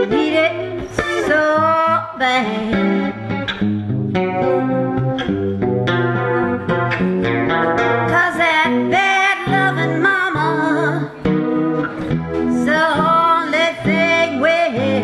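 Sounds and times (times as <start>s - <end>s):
blues guitar playing: 0.0s - 15.0s
wavering lead melody: 0.0s - 15.0s.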